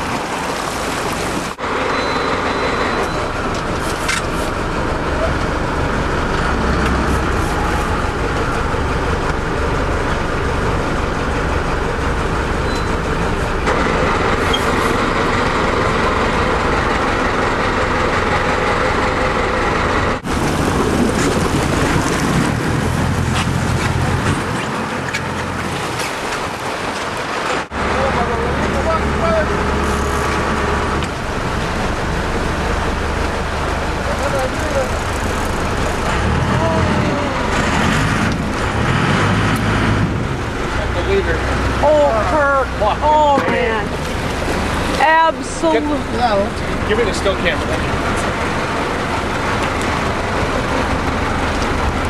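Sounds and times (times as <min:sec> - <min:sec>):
boat engine rumble: 0:00.0 - 0:52.0
rushing water: 0:00.0 - 0:52.0.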